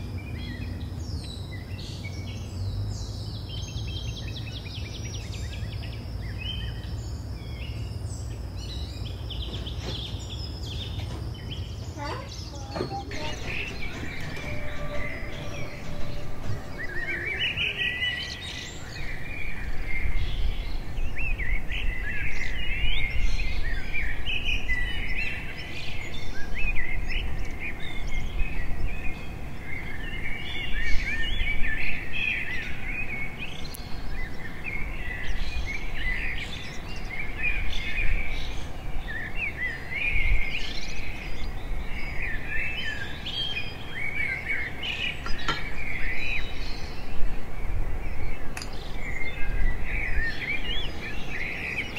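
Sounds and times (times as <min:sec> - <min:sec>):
birds chirping and singing: 0:00.0 - 0:51.9.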